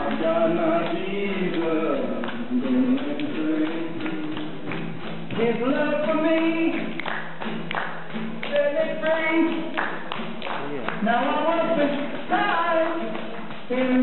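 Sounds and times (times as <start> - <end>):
man singing: 0.0 - 7.0, 8.4 - 14.0
audience clapping along: 0.0 - 14.0
strummed acoustic guitar: 0.0 - 14.0.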